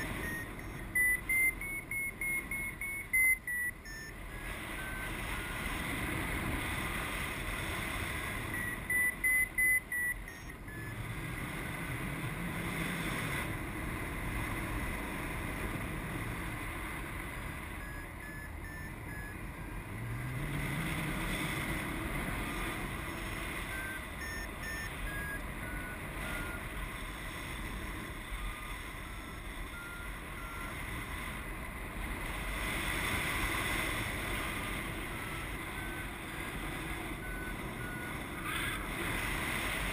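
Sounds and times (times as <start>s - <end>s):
variometer beeping: 0.0s - 15.6s, 16.2s - 39.9s.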